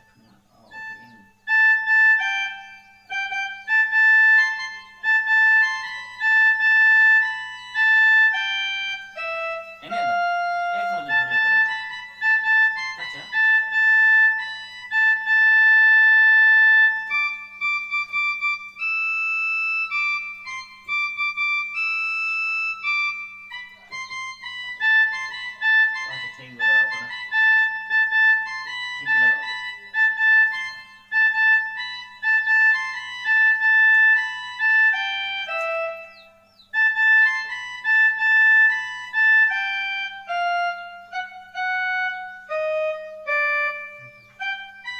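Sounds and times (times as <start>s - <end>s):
electronic keyboard slow melody: 0.0s - 44.9s
faint steady hum: 0.0s - 44.9s.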